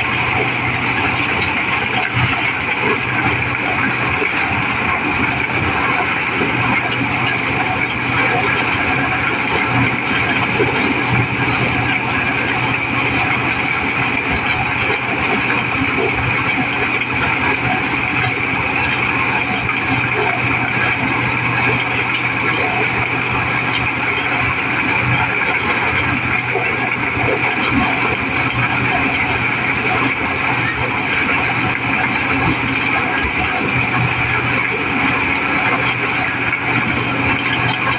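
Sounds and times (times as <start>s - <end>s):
corn sheller machine running: 0.0s - 37.9s.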